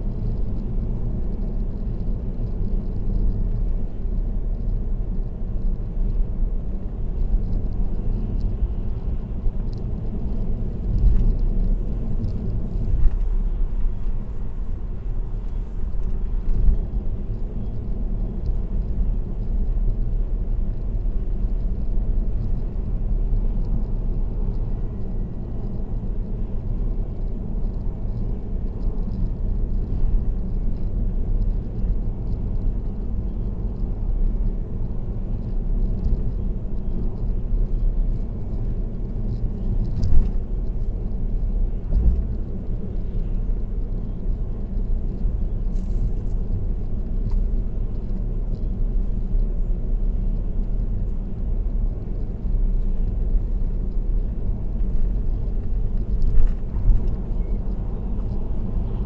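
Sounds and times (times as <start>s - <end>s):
car road and tyre rumble: 0.0s - 59.0s.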